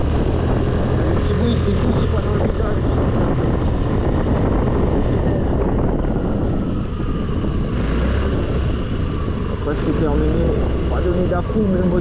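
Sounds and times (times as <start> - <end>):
scooter engine running: 0.0 - 12.0
wind and road noise: 0.0 - 12.0.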